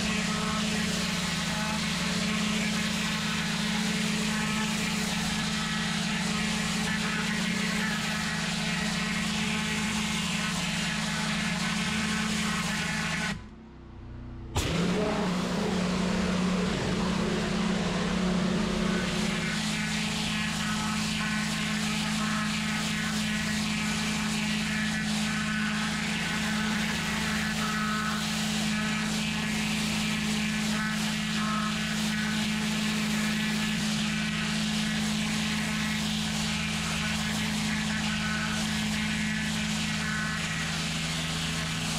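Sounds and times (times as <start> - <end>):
pressure washer water jet hissing: 0.0 - 13.4, 14.6 - 41.9
machine low hum: 0.0 - 41.9.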